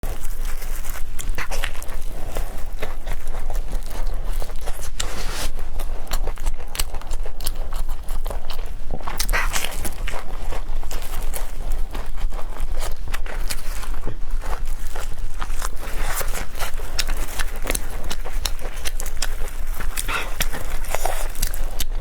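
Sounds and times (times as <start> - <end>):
mouth noises: 0.0 - 22.0
person chewing: 0.0 - 22.0.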